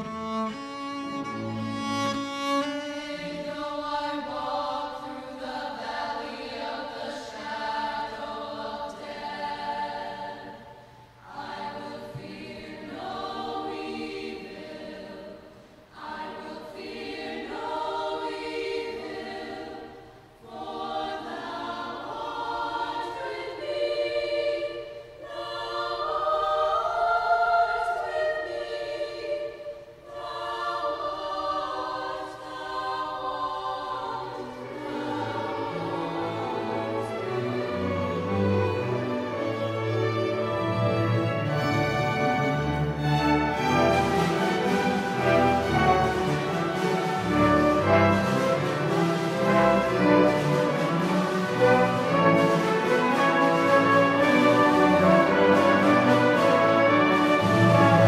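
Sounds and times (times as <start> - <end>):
youth choir singing: 2.6 - 58.0.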